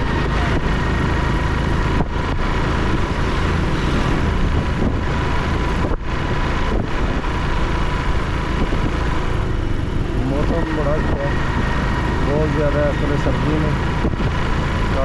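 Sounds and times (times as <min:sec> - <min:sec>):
small motorcycle engine running: 0:00.0 - 0:15.0
wind and road noise: 0:00.0 - 0:15.0.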